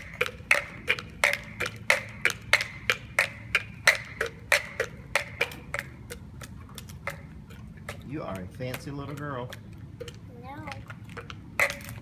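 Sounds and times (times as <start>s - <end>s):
plastic heels clacking on concrete: 0.0s - 12.0s.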